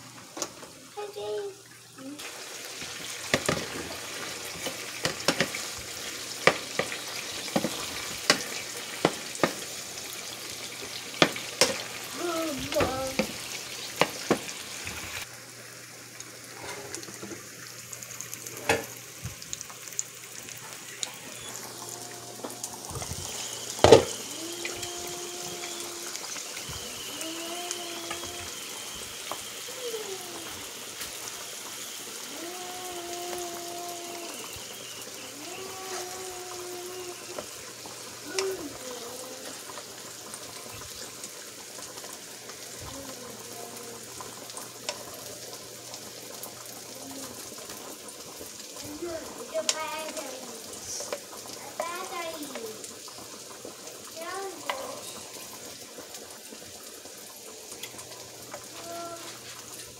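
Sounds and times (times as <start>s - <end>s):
sausages sizzling in frying pan: 0.0s - 59.9s.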